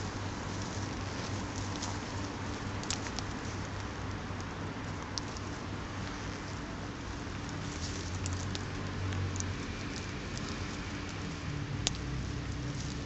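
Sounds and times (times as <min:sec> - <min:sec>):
faint crackles and ticks: 0:00.0 - 0:13.0.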